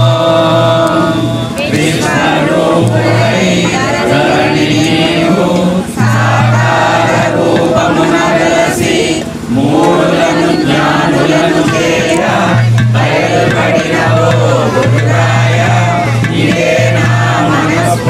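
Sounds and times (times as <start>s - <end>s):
group singing a chant: 0.0s - 18.0s
held low notes: 0.0s - 18.0s.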